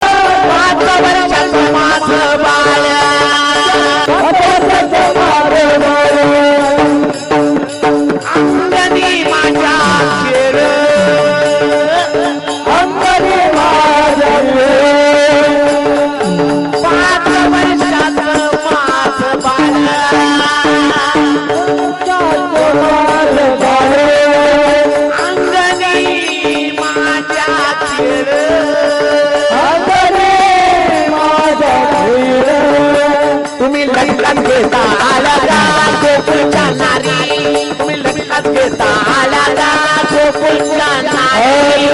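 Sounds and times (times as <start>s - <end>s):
hand percussion: 0.0s - 41.9s
man singing long notes: 0.0s - 41.9s.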